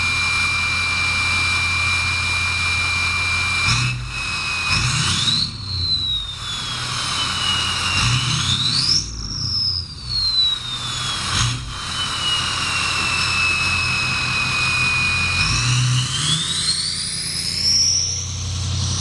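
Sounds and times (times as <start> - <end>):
diesel engine rumble: 0.0 - 19.0
turbocharger whistling: 0.0 - 19.0.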